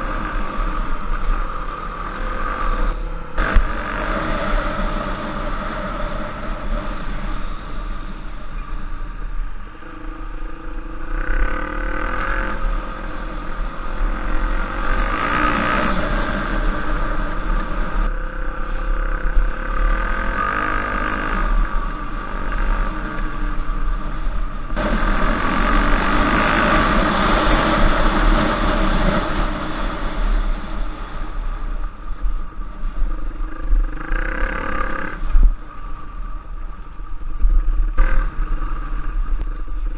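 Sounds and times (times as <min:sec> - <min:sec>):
motorcycle engine revving: 0:00.0 - 0:32.5, 0:33.1 - 0:35.6.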